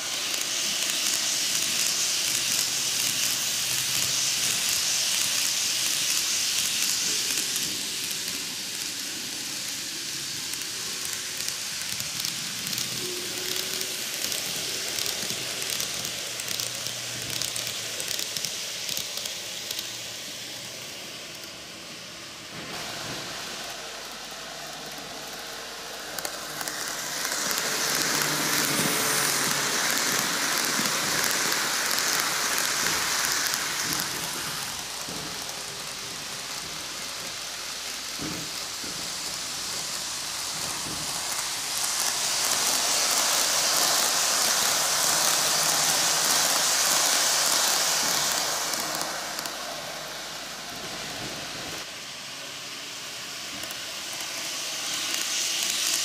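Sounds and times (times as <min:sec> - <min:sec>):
model train wheels rattling on rail: 0:00.0 - 0:56.0.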